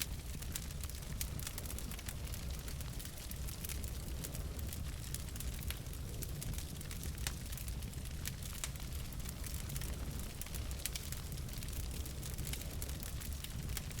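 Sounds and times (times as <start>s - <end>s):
logs crackling and popping: 0.0s - 14.0s
rumble of fire flames: 0.0s - 14.0s.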